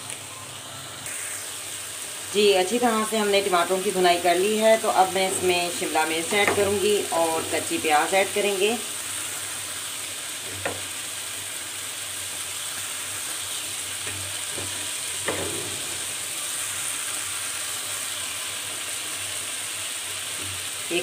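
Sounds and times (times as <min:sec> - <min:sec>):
curry sizzling in a steel pan: 0:00.0 - 0:21.0.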